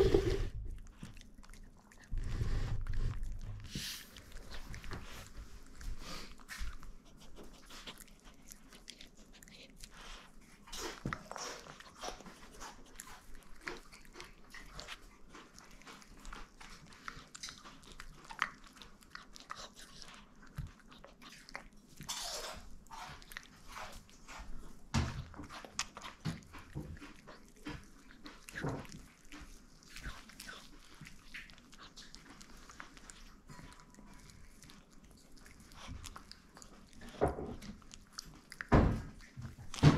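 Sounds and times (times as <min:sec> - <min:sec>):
dog chewing and crunching: 0:00.0 - 0:39.9.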